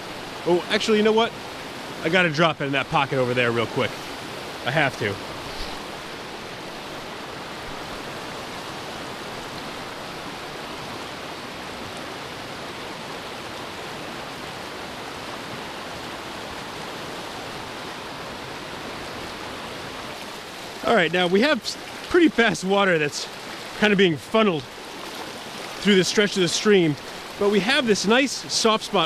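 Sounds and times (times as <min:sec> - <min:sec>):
stream rushing over stones: 0:00.0 - 0:29.0.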